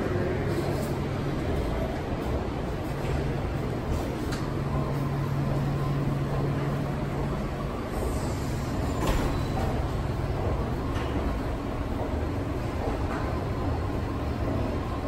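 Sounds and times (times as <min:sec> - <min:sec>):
city bus running: 0:00.0 - 0:15.0
steady low hum: 0:00.0 - 0:15.0.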